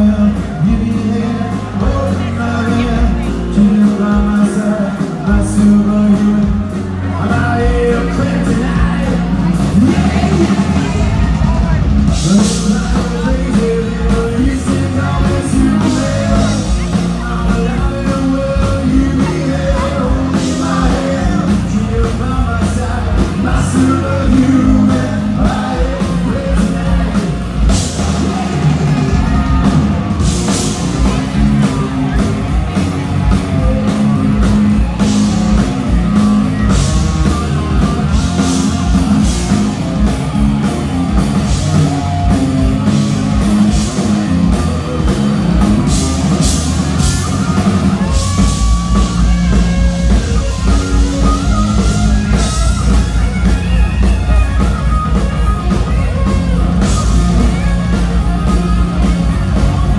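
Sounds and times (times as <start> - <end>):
drum kit: 0.0 - 59.9
live rock band: 0.0 - 59.9.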